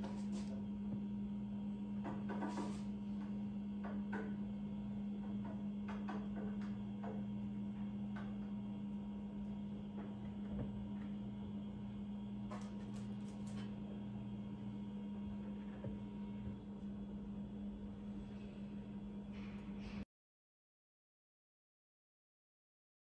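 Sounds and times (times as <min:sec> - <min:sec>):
low hum: 0:00.0 - 0:20.1.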